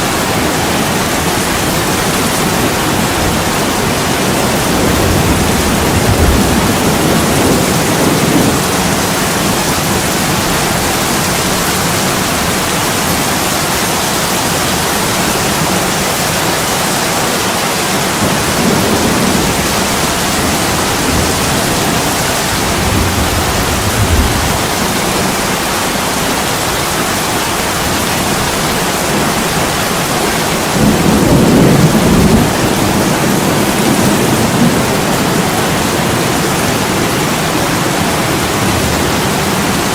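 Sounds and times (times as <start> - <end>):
heavy rain on a window: 0.0 - 39.9
thunder rumbling: 0.0 - 39.9.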